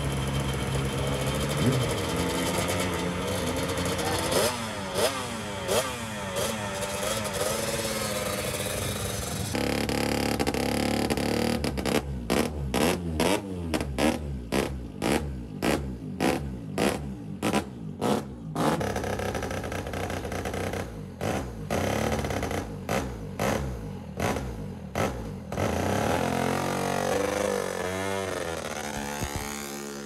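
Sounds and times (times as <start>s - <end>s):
two-stroke motorcycle engine revving: 0.0s - 30.0s.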